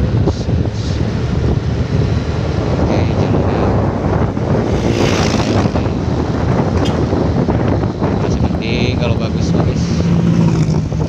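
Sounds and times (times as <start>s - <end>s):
motorcycle engine rumble: 0.0s - 11.0s
wind buffeting microphone: 0.0s - 11.0s.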